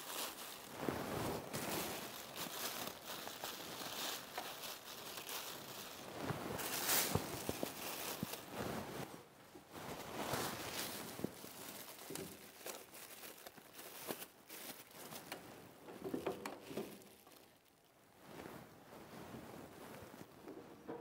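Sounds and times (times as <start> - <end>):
material rustling and crinkling: 0.0 - 21.0.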